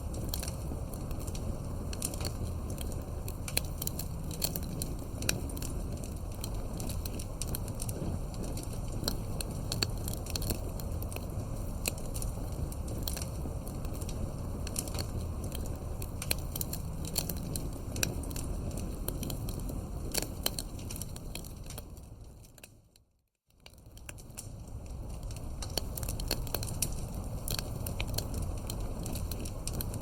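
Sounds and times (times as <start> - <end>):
fire crackling and popping: 0.0 - 30.0.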